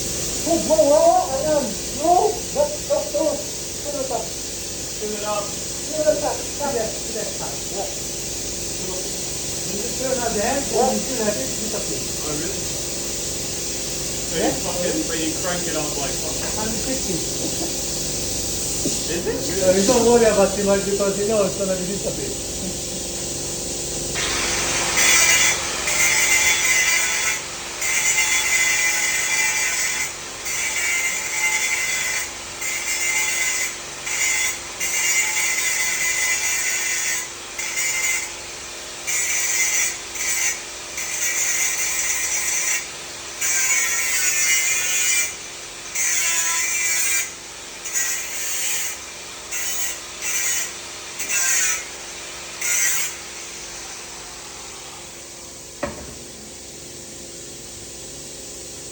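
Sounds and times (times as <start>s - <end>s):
welding arc hissing and crackling: 0.0s - 58.9s.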